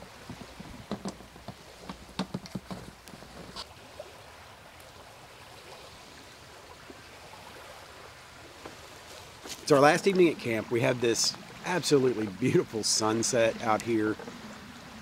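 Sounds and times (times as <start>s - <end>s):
small waves on shore: 0.0s - 15.0s.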